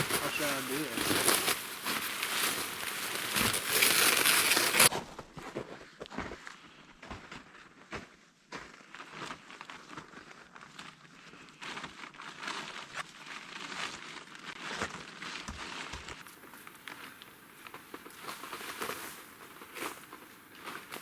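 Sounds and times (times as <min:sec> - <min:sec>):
small crackles: 0:00.0 - 0:04.9, 0:08.8 - 0:21.0
footsteps crunching in snow: 0:00.0 - 0:21.0.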